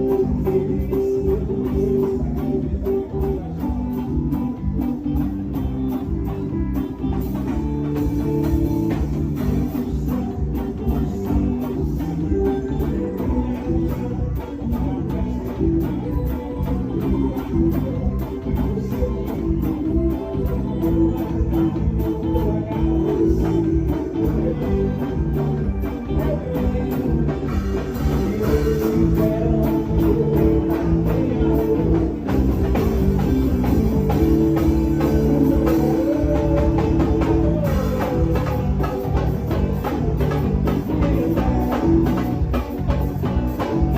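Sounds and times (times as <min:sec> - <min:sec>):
band music with drums: 0:00.0 - 0:43.9.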